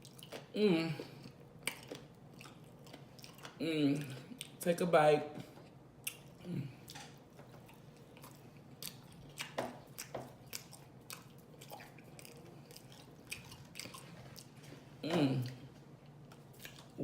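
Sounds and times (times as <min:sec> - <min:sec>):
person chewing food: 0:00.0 - 0:04.6, 0:05.4 - 0:17.0.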